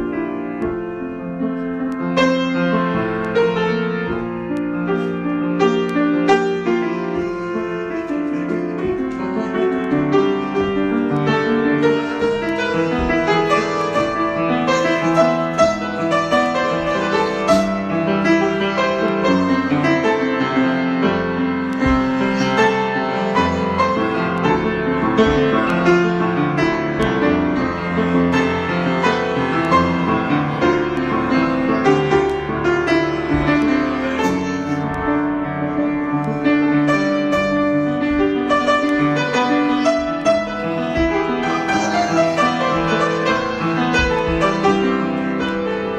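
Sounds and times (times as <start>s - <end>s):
piano improvisation: 0.0s - 45.9s.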